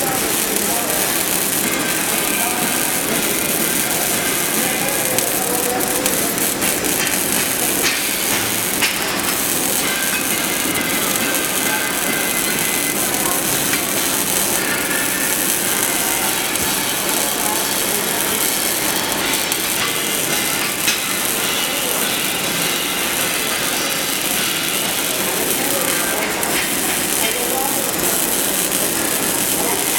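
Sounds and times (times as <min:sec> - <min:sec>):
welding arc crackling hiss: 0:00.0 - 0:29.9.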